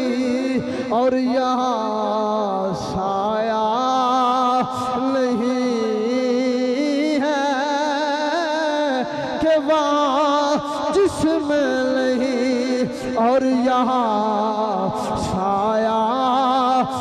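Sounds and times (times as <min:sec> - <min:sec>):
person singing devotional verse: 0:00.0 - 0:17.0.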